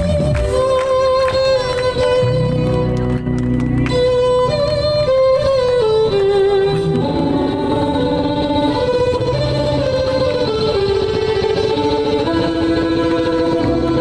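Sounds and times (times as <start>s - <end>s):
accompaniment with bass line: 0.0s - 14.0s
amplified violin melody: 0.0s - 14.0s.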